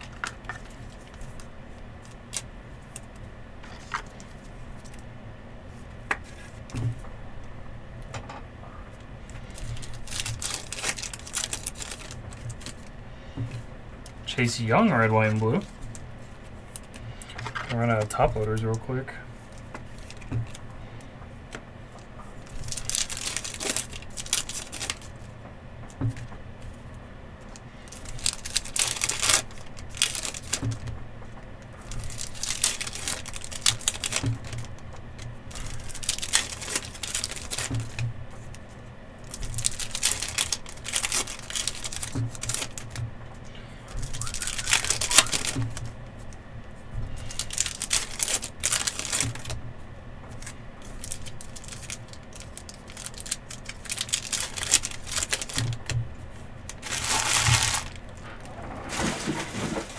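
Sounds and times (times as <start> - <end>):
plastic sleeves crinkling: 0.0 - 5.1, 8.9 - 25.4, 26.0 - 49.6, 50.3 - 59.9.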